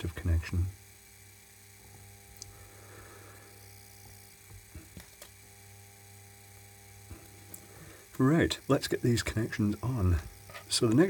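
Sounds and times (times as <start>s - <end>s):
faint electronic hum: 0.0s - 11.0s.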